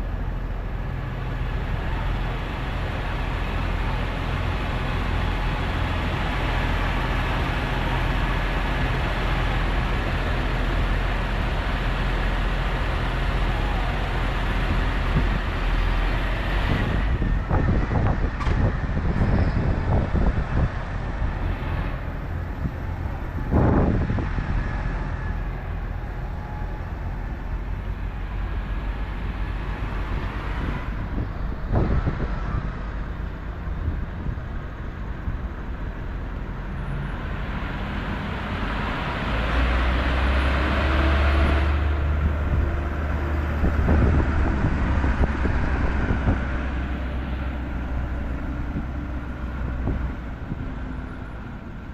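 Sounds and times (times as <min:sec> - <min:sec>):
tractor diesel engines: 0:00.0 - 0:51.9
traffic noise: 0:00.0 - 0:51.9.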